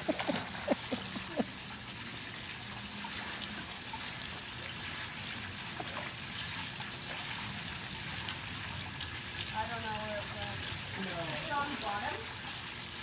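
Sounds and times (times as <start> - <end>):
water drips and plops: 0.0 - 13.0
water trickling and lapping: 0.0 - 13.0.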